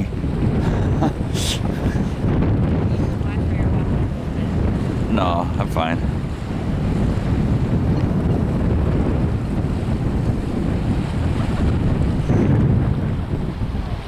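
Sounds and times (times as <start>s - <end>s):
lake waves washing on shore: 0.0s - 14.0s
wind buffeting microphone: 0.0s - 14.0s.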